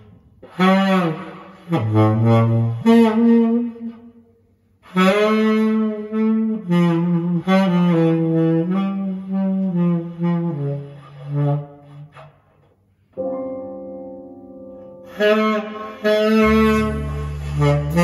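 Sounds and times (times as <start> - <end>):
saxophone music over loudspeakers: 0.4 - 4.0, 4.8 - 12.3, 14.2 - 18.0.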